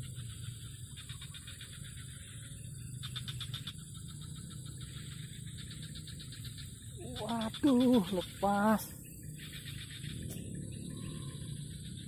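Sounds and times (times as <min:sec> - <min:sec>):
insects trilling: 0:00.0 - 0:12.0
low outdoor hum: 0:00.0 - 0:12.0.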